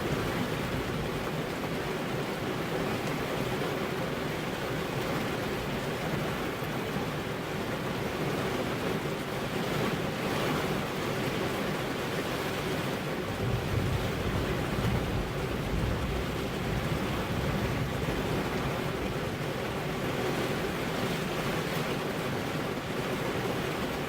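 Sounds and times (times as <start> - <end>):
rain on car windows: 0.0 - 24.0.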